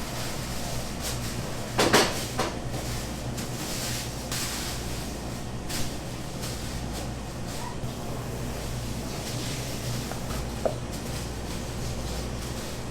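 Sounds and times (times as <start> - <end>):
low hum of equipment: 0.0 - 12.9.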